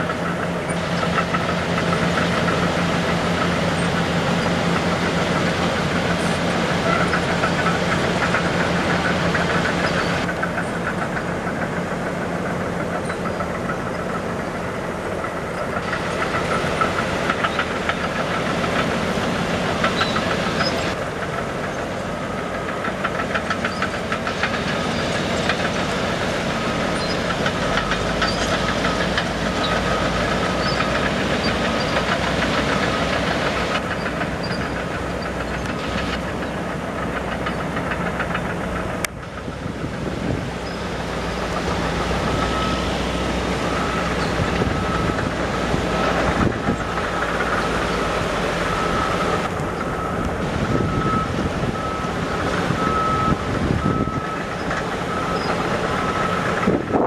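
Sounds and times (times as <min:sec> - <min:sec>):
diesel engine running with clatter: 0:00.0 - 0:57.0.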